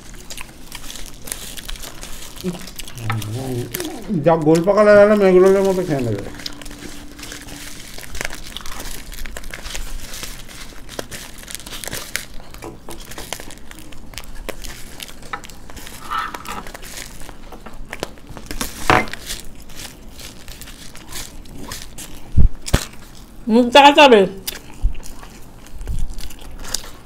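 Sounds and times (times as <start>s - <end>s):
foil-lined paper crackling: 0.0s - 24.2s, 25.0s - 27.0s.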